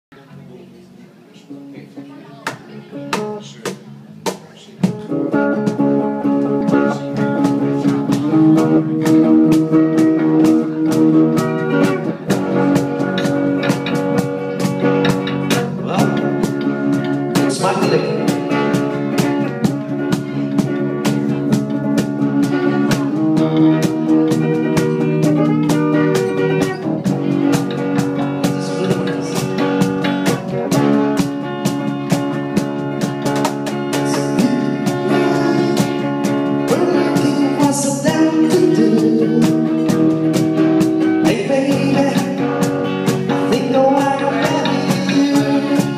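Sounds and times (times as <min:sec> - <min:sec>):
guitar: 0:00.1 - 0:45.9
live blues band playing: 0:01.1 - 0:45.9
drum kit beat: 0:02.4 - 0:45.9.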